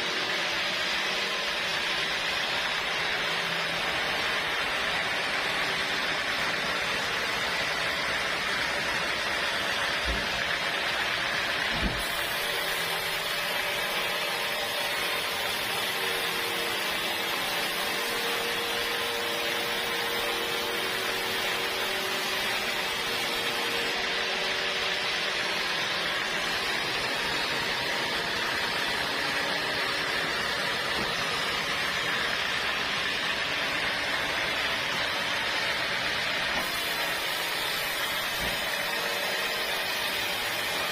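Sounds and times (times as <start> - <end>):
sawmill saw running: 0.0 - 40.9.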